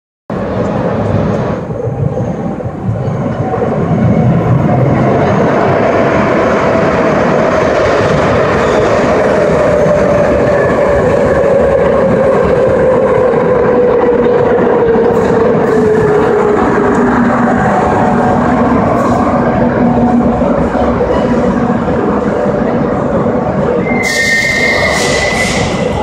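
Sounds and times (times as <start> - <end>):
train running into station: 0.3 - 26.0
wheels rumbling on track: 0.3 - 26.0.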